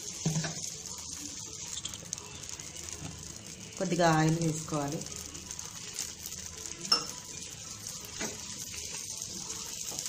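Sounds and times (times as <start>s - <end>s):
batter sizzling on griddle: 0.0s - 10.0s.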